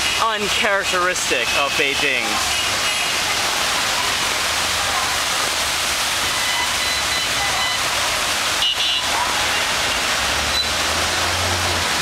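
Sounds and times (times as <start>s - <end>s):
floodwater rushing: 0.0s - 12.0s
passing traffic: 0.0s - 12.0s.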